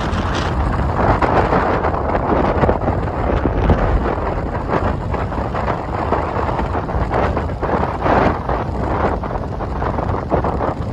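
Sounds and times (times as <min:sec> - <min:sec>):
strong wind buffeting microphone: 0:00.0 - 0:10.9.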